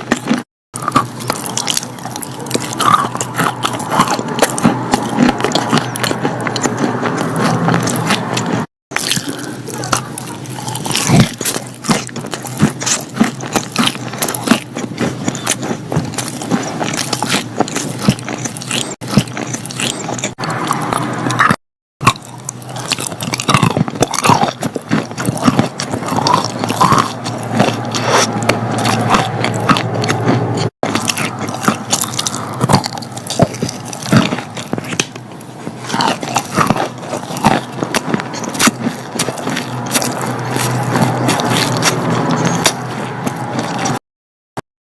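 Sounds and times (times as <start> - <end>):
chewing chalk crunches: 0.0 - 44.0.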